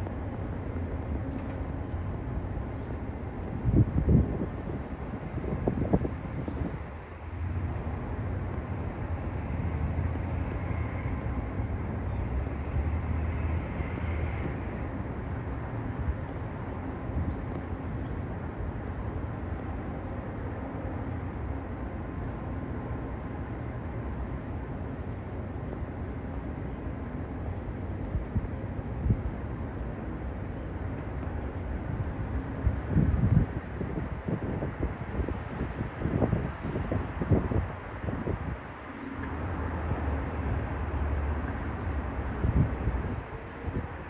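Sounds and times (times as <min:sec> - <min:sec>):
distant city traffic rumble: 0:00.0 - 0:44.0.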